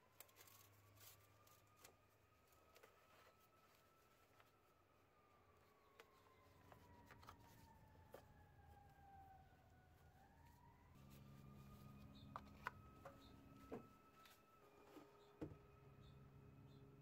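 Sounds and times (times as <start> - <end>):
distant siren: 0.0 - 17.0.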